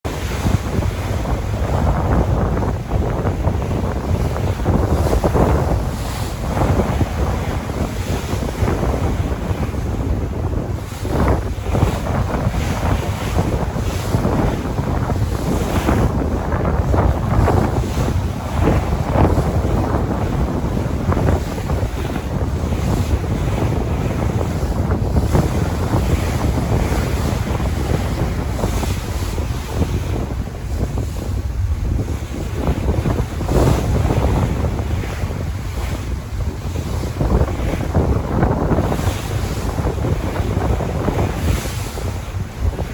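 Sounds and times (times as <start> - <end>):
wind rumble on microphone: 0.0 - 42.9
sea waves washing onto shore: 0.1 - 42.9.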